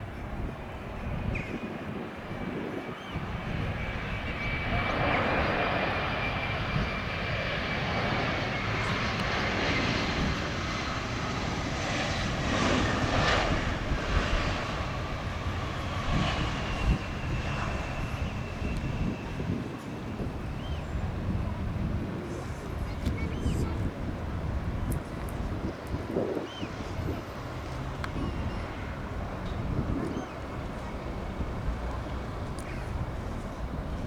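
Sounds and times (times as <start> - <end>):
jet engine roar with whine: 0.0 - 34.0.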